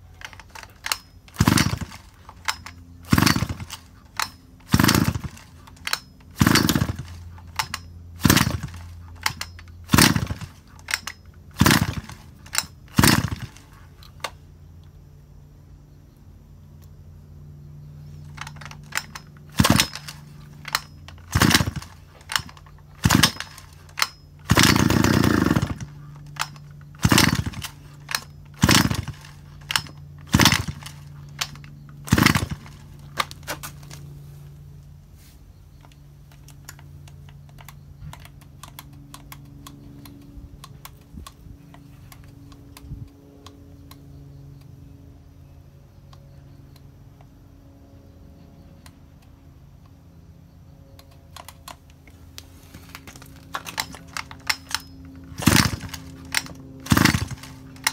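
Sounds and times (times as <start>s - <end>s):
chainsaw engine idling and revving: 0.0s - 14.5s, 18.0s - 44.6s, 51.0s - 57.9s.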